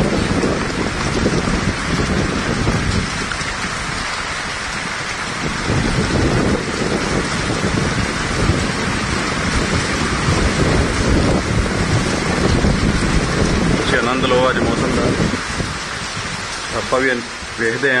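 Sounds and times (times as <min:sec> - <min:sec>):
heavy rain pouring: 0:00.0 - 0:18.0
wind rumble on microphone: 0:00.0 - 0:18.0.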